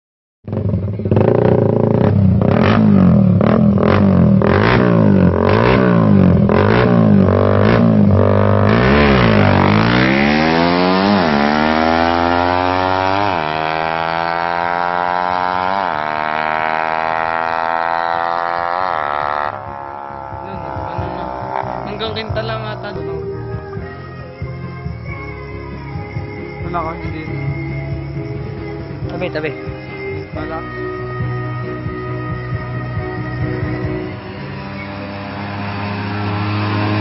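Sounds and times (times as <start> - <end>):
motorcycle engine revving: 0.5 - 24.0, 26.0 - 37.0.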